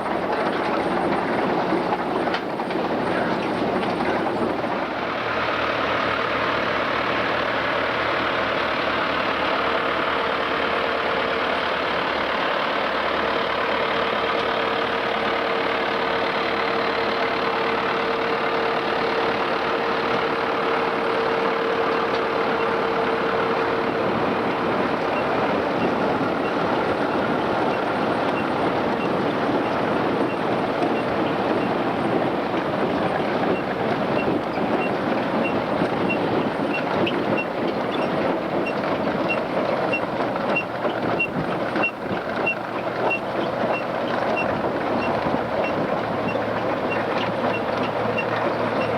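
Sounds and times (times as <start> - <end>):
harvester machinery running: 0.0 - 48.9
tractor diesel engine running: 0.0 - 48.9.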